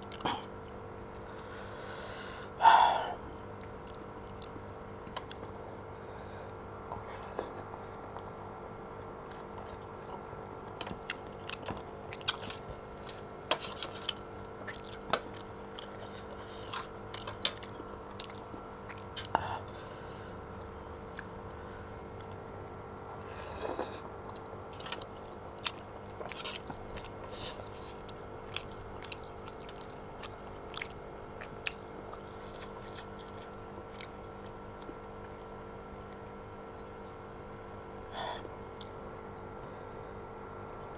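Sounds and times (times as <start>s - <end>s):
close chewing of noodles: 0.0s - 5.5s, 7.0s - 36.8s
electrical hum: 0.0s - 40.9s.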